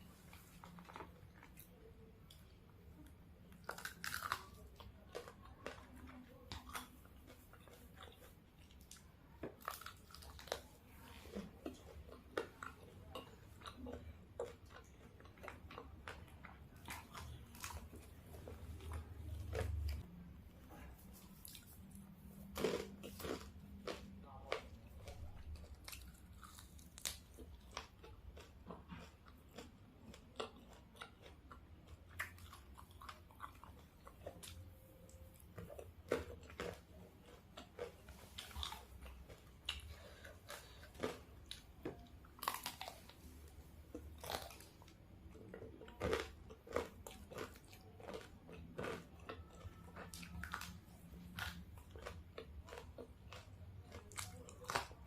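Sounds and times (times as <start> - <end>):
crunchy chewing: 0.0 - 20.1, 20.7 - 55.0.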